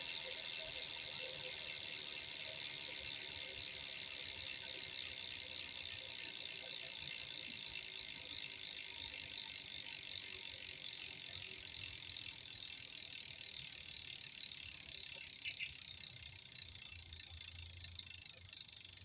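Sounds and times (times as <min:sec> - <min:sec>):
bicycle hub freewheeling buzz: 0:00.0 - 0:19.0.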